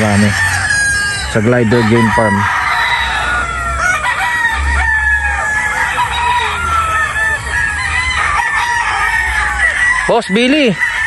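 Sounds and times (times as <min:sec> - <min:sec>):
roosters crowing: 0:00.0 - 0:11.0.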